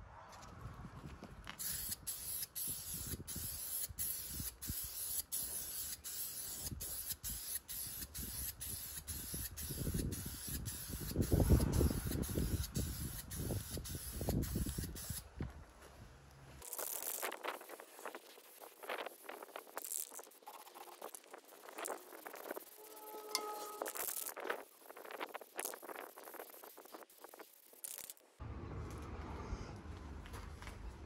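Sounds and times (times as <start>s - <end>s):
spray paint can hissing: 1.6s - 15.3s, 16.6s - 28.2s.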